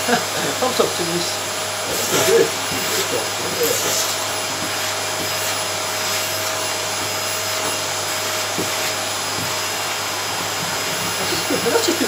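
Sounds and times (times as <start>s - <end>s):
vacuum cleaner on carpet: 0.0s - 12.0s.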